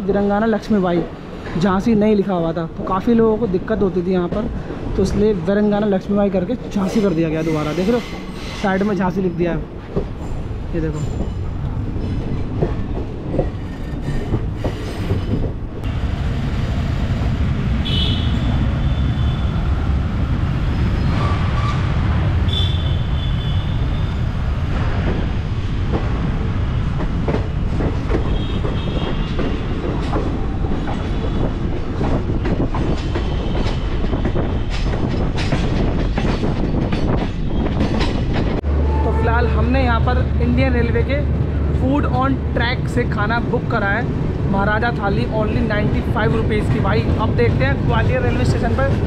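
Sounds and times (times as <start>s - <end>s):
train rumbling over rail joints: 0.0s - 49.0s.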